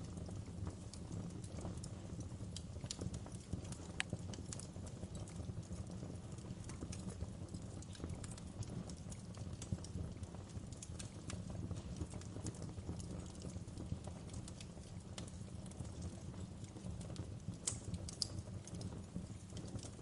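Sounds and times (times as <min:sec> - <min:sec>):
low rumble of burning fire: 0:00.0 - 0:20.0
wood fire crackling: 0:00.0 - 0:20.0.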